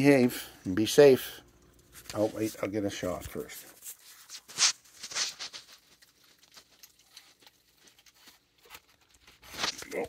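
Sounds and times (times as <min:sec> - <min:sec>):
animals crunching and rustling food: 0:00.0 - 0:10.0.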